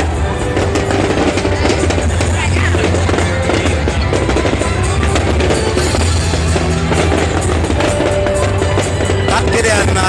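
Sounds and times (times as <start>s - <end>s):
fireworks bangs and crackles: 0.0s - 10.0s
music with heavy bass drum: 0.0s - 10.0s.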